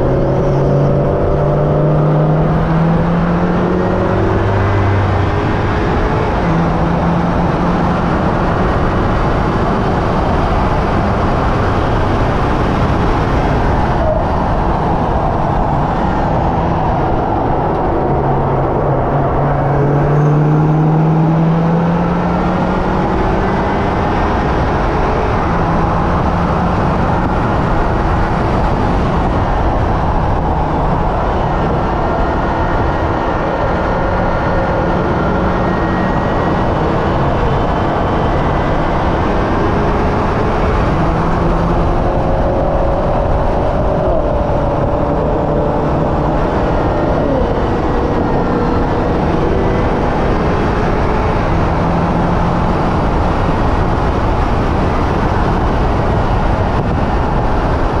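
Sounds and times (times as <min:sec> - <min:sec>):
car engine revving: 0:00.0 - 0:58.0
wind and road noise: 0:00.0 - 0:58.0.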